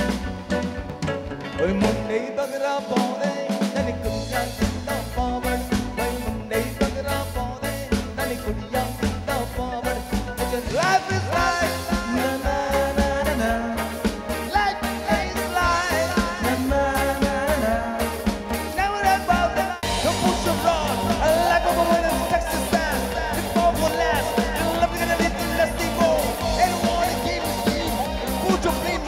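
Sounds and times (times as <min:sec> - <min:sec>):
live rock band playing: 0:00.0 - 0:29.0
man singing lead vocal: 0:01.4 - 0:29.0.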